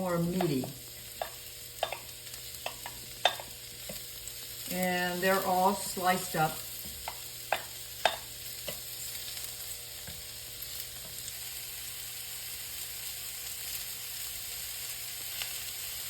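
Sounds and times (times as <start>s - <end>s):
mushrooms sizzling in a pan: 0.0s - 16.0s.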